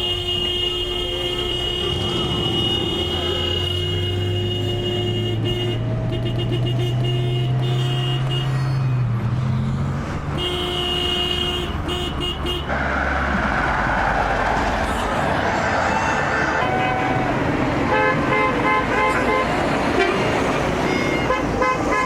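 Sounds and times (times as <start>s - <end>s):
vehicle horns honking: 0.0s - 9.0s, 10.3s - 12.8s, 14.9s - 22.0s.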